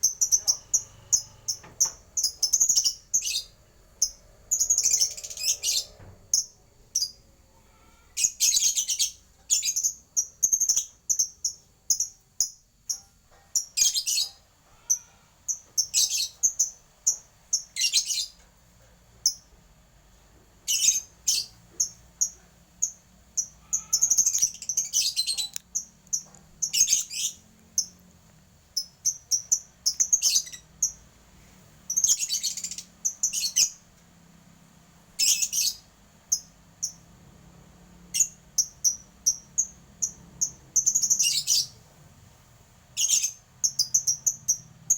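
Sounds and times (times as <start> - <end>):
bird chirping: 0.0 - 18.5, 20.6 - 31.2, 31.8 - 34.0, 35.1 - 37.2, 38.0 - 44.9.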